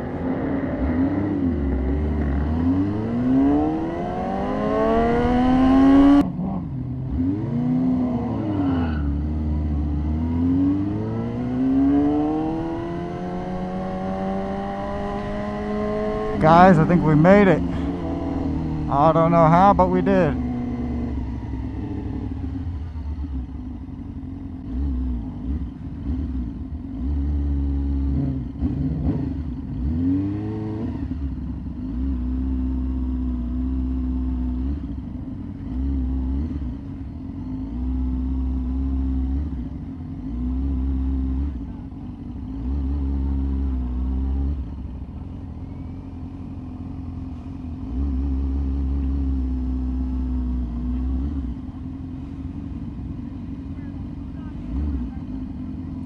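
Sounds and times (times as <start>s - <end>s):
motorcycle engine revving: 0.0s - 19.0s, 20.1s - 56.0s.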